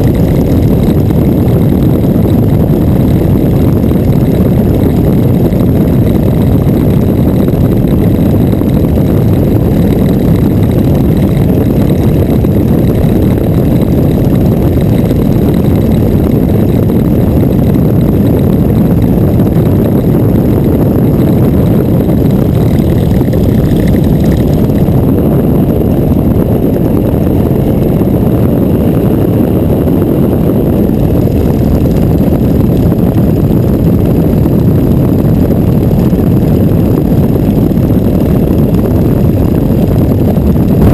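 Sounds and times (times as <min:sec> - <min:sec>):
biplane engine droning: 0:00.0 - 0:40.9.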